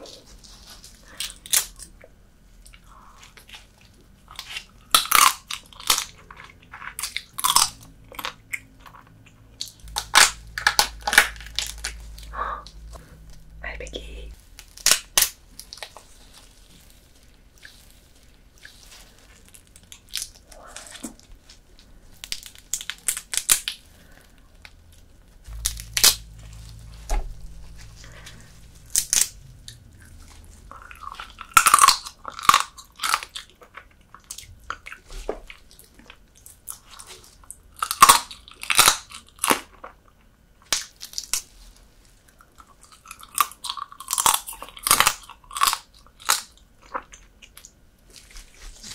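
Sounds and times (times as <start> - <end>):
crunching and chewing: 0.0 - 13.5, 14.4 - 48.9.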